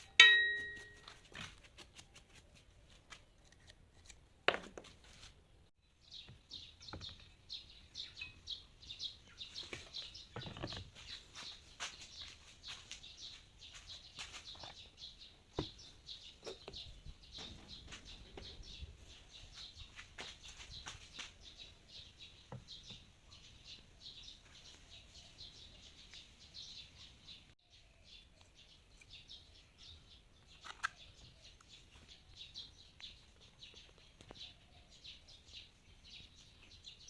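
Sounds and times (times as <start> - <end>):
small birds chirping: 5.5 - 37.0.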